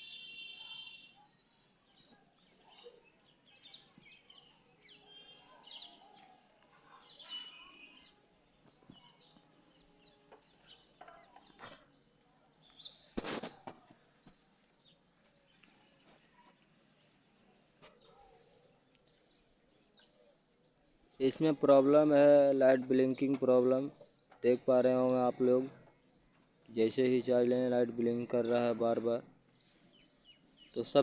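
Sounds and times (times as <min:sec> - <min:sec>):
faint high birdsong chirps: 0:00.0 - 0:31.0.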